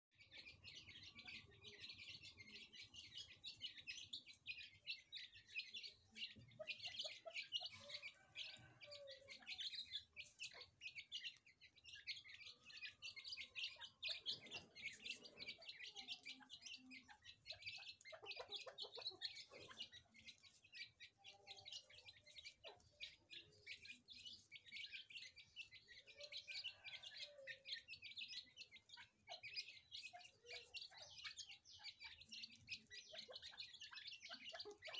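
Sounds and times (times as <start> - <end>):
chicks cheeping: 0.1 - 34.9.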